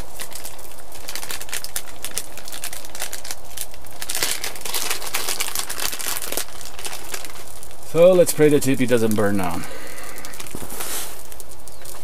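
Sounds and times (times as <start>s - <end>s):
kindling crackling and popping: 0.0s - 12.0s.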